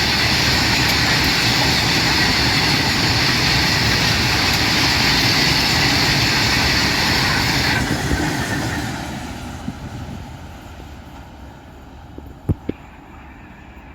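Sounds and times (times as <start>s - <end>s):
freight train passing: 0.0s - 13.9s
wheels on rails: 0.0s - 13.9s.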